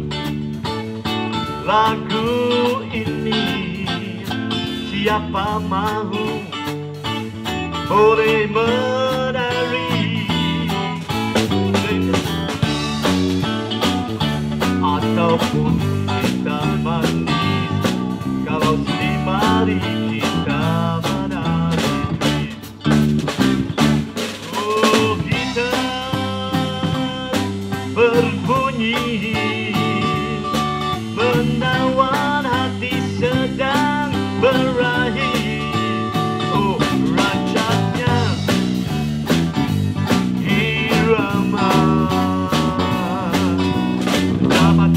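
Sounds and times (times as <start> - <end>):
drum kit: 0.0 - 44.9
electric bass: 0.0 - 44.9
electric guitar lead: 0.0 - 44.9.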